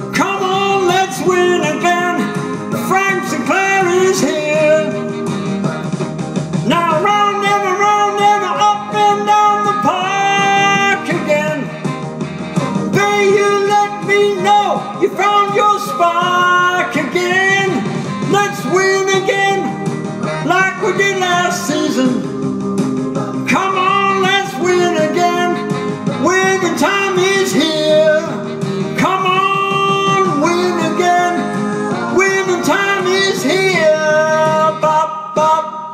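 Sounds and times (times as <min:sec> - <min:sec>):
guitar accompaniment: 0:00.0 - 0:35.9
person singing: 0:00.0 - 0:35.9.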